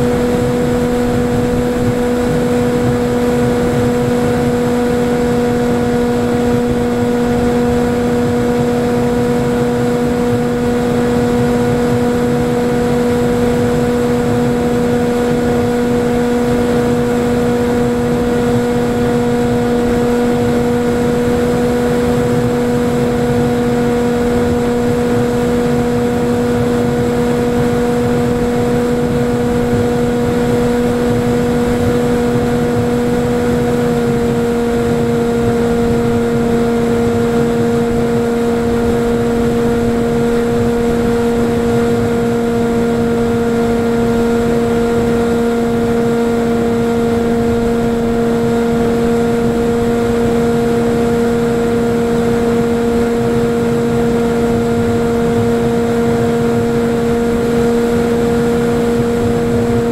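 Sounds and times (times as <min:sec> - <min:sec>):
electric motor and propeller droning: 0:00.0 - 0:59.9
wind rush: 0:00.0 - 0:59.9.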